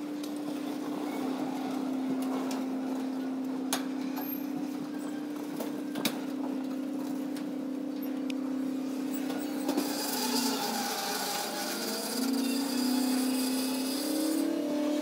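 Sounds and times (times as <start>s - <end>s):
freight cars rolling on track: 0.0s - 15.0s
steady low hum: 0.0s - 15.0s.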